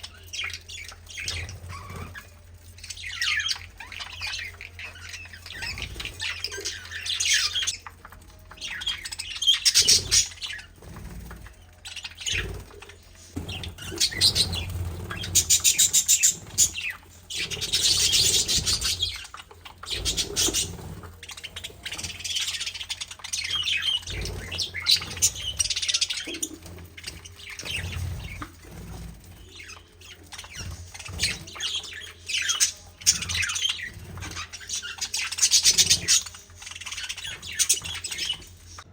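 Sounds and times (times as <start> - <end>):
pet birds chirping and chattering: 0.0 - 38.9.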